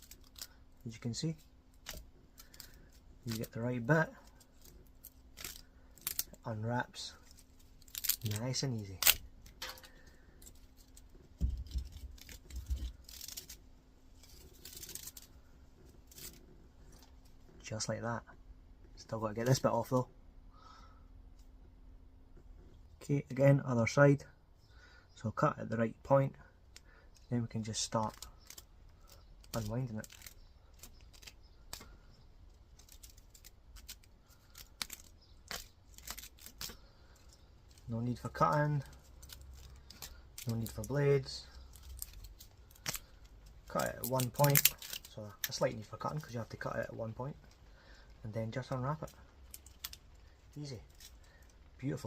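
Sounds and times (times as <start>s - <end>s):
wire scratching and rustling: 0.0s - 17.7s, 27.1s - 52.0s.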